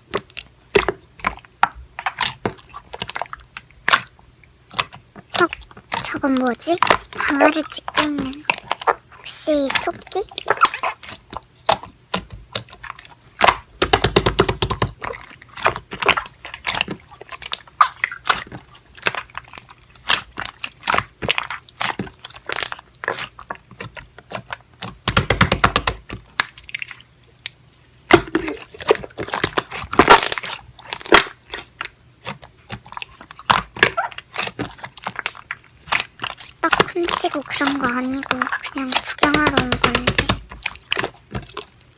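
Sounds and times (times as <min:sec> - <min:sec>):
slime squishing: 0:00.0 - 0:41.9.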